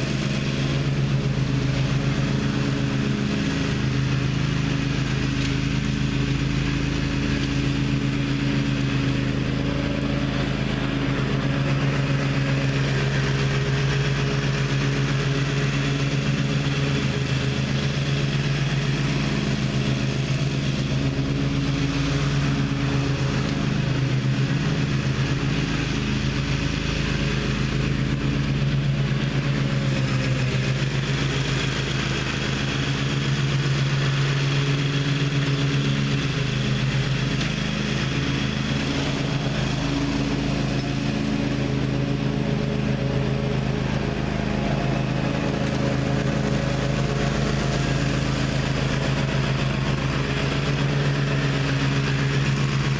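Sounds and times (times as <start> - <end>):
mower engine running: 0.0 - 52.9.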